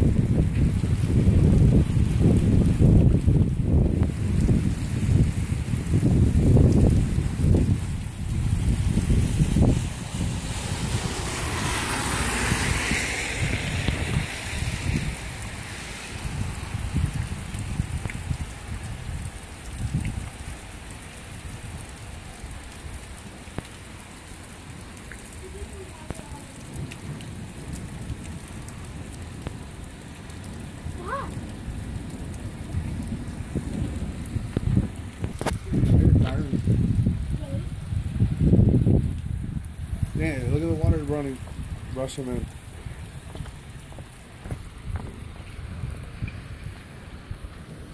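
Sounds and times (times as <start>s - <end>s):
wind gusting on microphone: 0.0s - 23.7s, 25.5s - 47.9s
steady rain falling: 0.0s - 47.9s.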